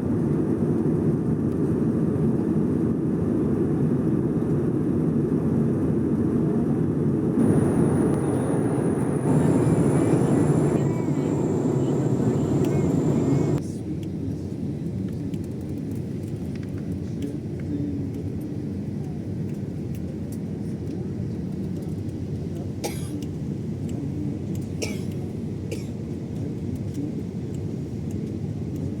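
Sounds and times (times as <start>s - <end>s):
low rumble of engines and airflow: 0.0s - 29.0s.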